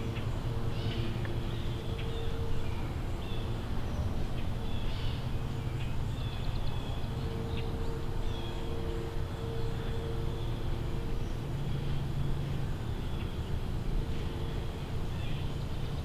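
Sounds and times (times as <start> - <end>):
birds chirping: 0.0 - 16.0
faint hum: 0.0 - 16.0
steady low rumble: 0.0 - 16.0.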